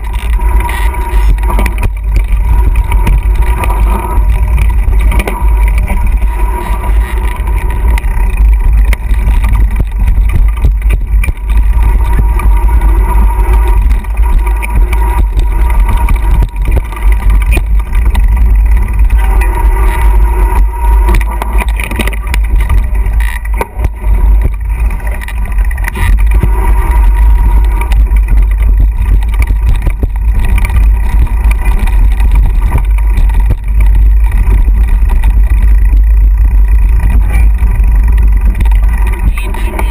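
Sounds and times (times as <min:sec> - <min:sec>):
bike knocks and rattles: 0:00.0 - 0:39.9
wind rumble on microphone: 0:00.0 - 0:39.9.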